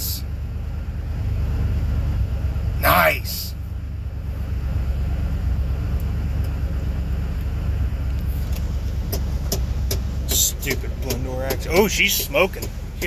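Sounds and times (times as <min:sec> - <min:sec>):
engine running roughly: 0:00.0 - 0:13.0.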